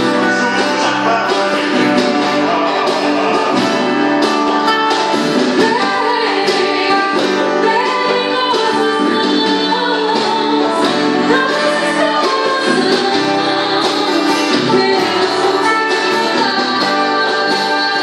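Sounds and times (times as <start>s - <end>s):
people singing worship song: 0.0s - 4.6s, 5.2s - 18.0s
guitar accompaniment: 0.0s - 18.0s.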